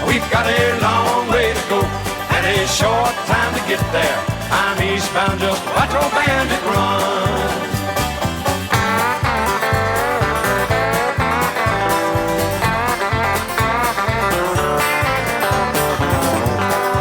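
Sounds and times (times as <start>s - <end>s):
bass and drum beat: 0.0s - 17.0s
electric guitar licks: 0.0s - 17.0s.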